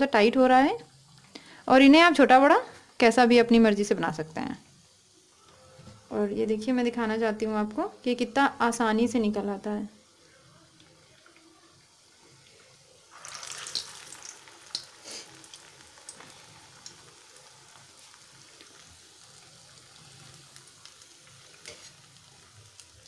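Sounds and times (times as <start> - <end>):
batter sizzling in hot oil: 0.0 - 23.0.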